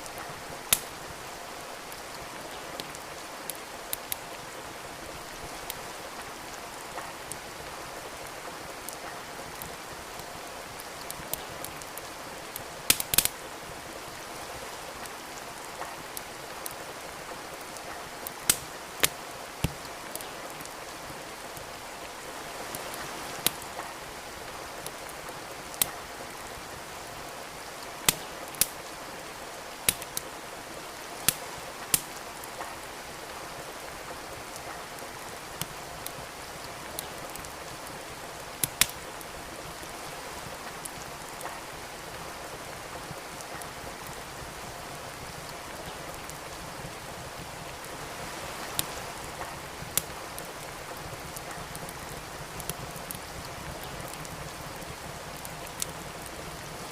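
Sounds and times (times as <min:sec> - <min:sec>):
steady rain hiss: 0:00.0 - 0:56.9
wood fire crackling and popping: 0:00.0 - 0:56.9.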